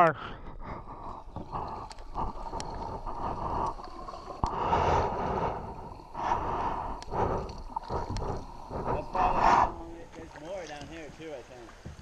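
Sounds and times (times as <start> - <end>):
water rushing along hull: 0.3 - 12.0
paddle strokes splashing: 0.6 - 12.0.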